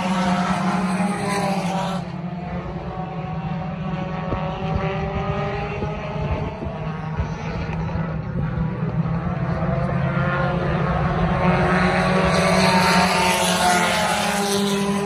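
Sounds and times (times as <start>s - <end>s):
distant engines droning: 0.0s - 15.0s
race car engines: 0.0s - 15.0s.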